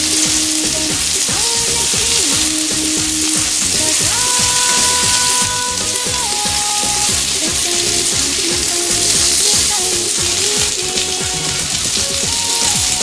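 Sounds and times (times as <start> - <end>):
background music with beat: 0.0 - 13.0
food sizzling on grill: 0.0 - 13.0.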